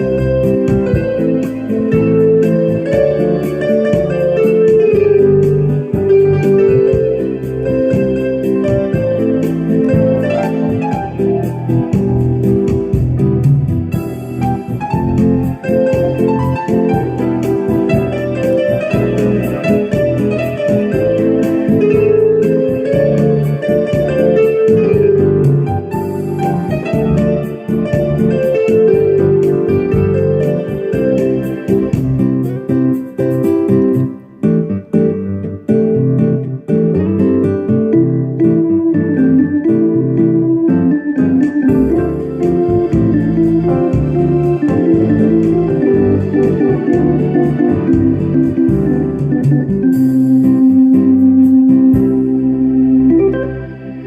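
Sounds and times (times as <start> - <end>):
keyboard drum accompaniment ticking: 0.0 - 34.1, 37.9 - 52.3
bass line: 0.0 - 54.0
electronic keyboard melody: 0.0 - 54.0.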